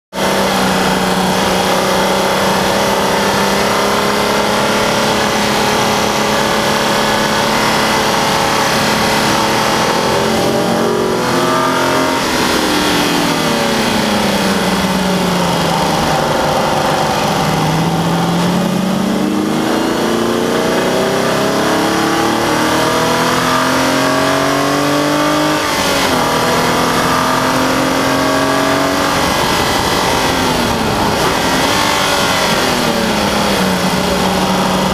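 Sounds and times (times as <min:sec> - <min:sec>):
car engine running hard: 0:00.1 - 0:34.9
wind and tyre noise: 0:00.1 - 0:34.9.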